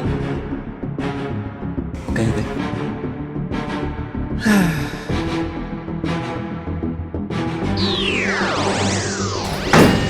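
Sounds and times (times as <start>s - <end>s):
dramatic background music: 0.0s - 10.0s.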